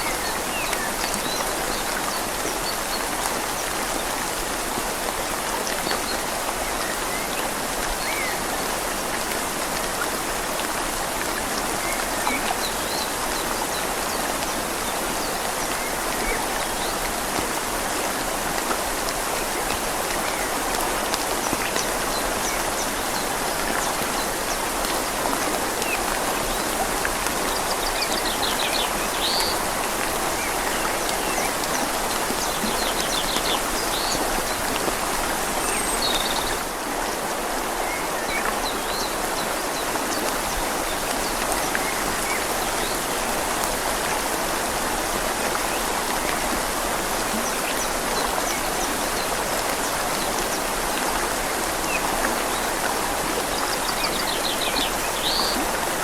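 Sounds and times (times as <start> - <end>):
rain falling on leaves: 0.0 - 56.0
river flowing: 0.0 - 56.0.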